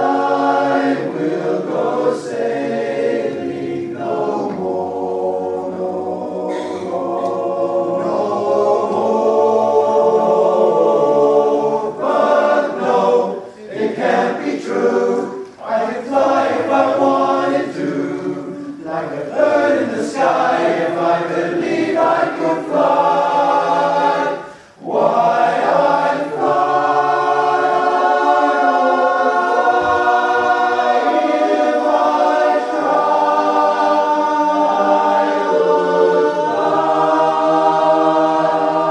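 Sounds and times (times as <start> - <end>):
male chorus singing a cappella: 0.0 - 38.9.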